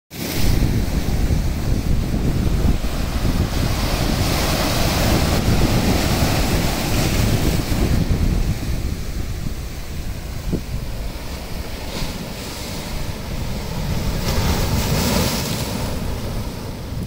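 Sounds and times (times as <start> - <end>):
surf breaking over rocks: 0.1 - 17.0
wind buffeting microphone: 0.2 - 17.0.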